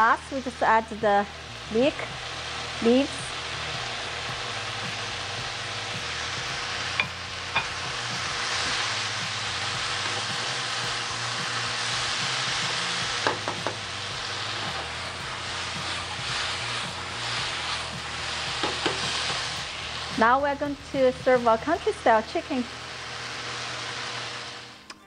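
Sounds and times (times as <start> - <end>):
food sizzling in a wok: 0.0 - 24.9.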